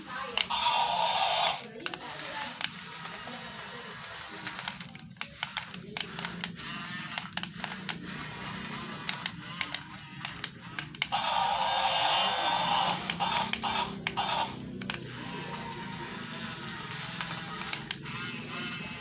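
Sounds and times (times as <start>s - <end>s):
harsh grinding noise: 0.0s - 19.0s
sharp clicks: 0.1s - 3.4s, 4.0s - 18.9s.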